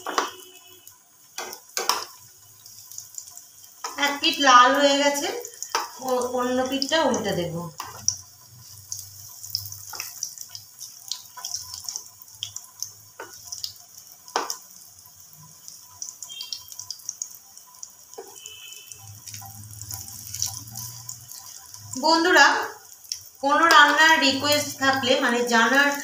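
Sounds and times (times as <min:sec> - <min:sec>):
food sizzling in hot oil: 0:00.0 - 0:26.0
oil crackling: 0:00.0 - 0:26.0.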